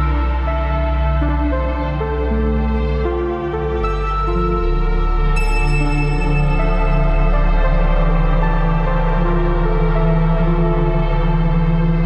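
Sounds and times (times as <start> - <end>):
slow ambient music: 0.0 - 12.0
steady low drone: 0.0 - 12.0.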